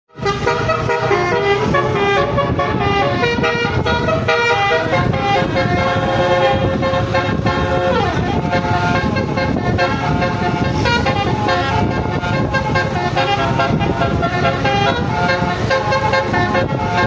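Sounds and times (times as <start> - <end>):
low engine rumble: 0.1 - 17.0
multi-tone air horn tune: 0.1 - 17.0
street rumble: 0.1 - 17.0.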